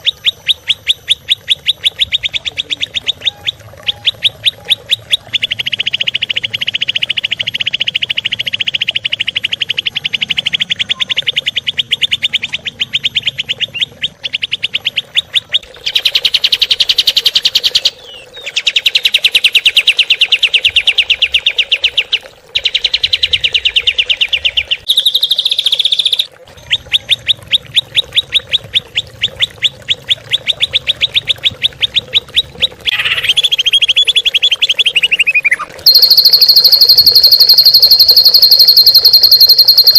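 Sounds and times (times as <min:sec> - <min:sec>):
songbird fast repeated chirping: 0:00.0 - 0:39.9.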